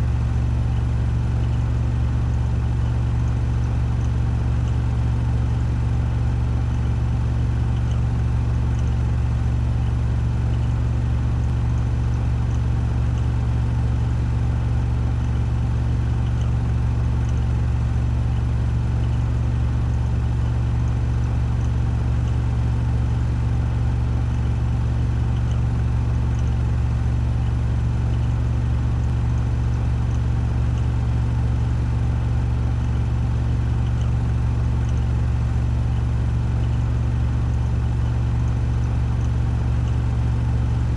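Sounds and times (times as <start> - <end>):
washing machine spinning hum: 0.0 - 40.9.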